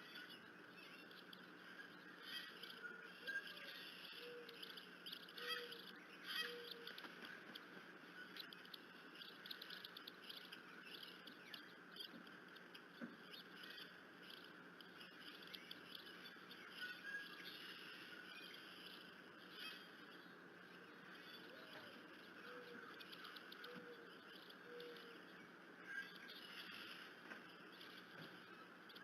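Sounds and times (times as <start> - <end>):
small bird or insect chatter: 0.0 - 20.2, 20.9 - 29.0.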